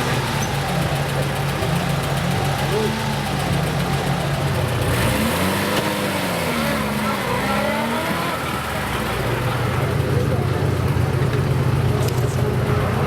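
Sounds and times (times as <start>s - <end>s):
low engine drone: 0.0s - 13.0s
off-road vehicle engine revving: 0.0s - 13.0s.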